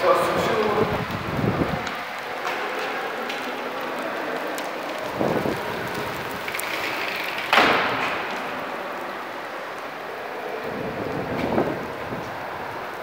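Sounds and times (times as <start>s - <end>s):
hail ticking: 0.0s - 13.0s
heavy rain hissing: 0.0s - 13.0s.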